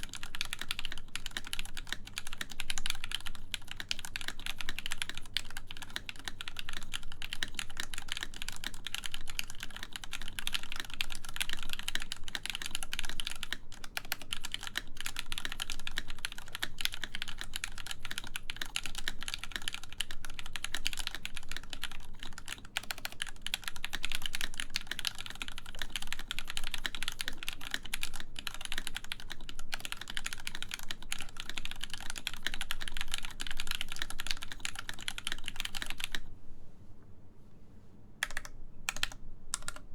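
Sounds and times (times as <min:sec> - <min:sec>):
fast typing on mechanical keyboard: 0:00.0 - 0:36.3, 0:38.2 - 0:39.9.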